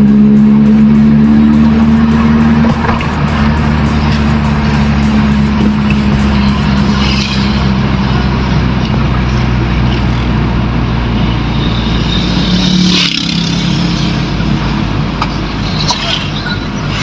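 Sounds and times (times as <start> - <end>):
car engine: 0.0 - 17.0
road noise: 0.0 - 17.0.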